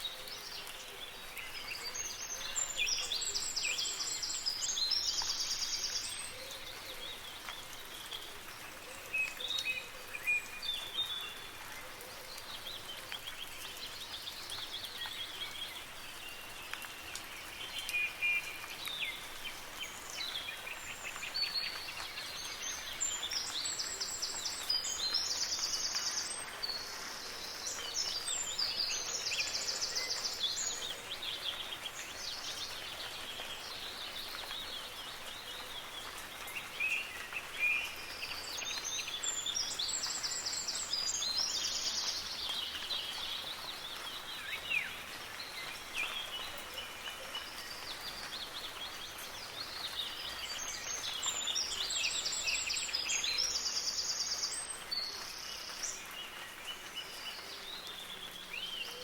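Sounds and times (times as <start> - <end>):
soft rain hiss: 0.0 - 59.0
songbirds singing: 0.0 - 59.0.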